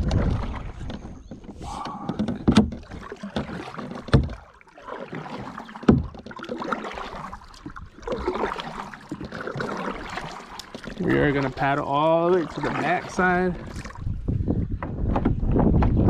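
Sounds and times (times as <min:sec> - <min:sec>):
paddle knocks: 0:00.0 - 0:14.0
water splashing and swishing: 0:00.0 - 0:16.0.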